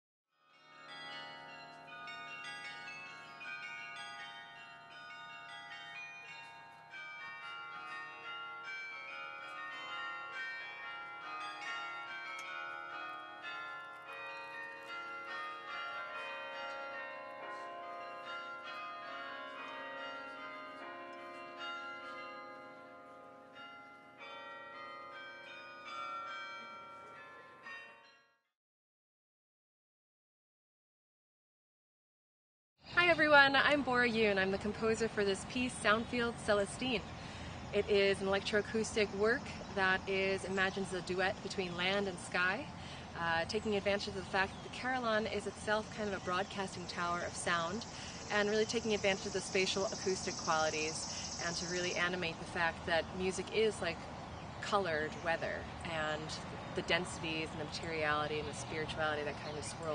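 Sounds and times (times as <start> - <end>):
carillon bells playing: 0.4 - 28.4, 33.7 - 59.7.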